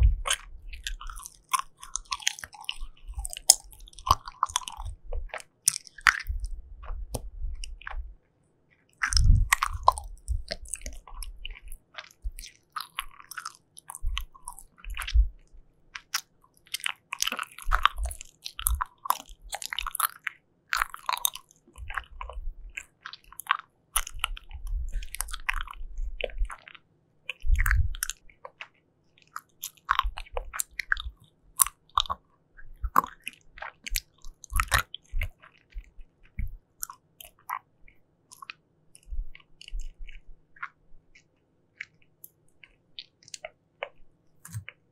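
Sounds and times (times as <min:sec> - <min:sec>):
wet chewing of jelly: 0:00.0 - 0:44.9.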